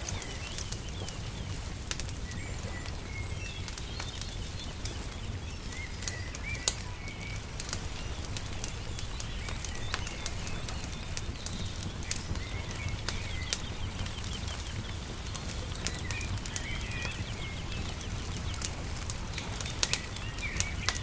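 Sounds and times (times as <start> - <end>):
small birds chirping: 0.0 - 21.0
wood fire crackling and popping: 0.0 - 21.0.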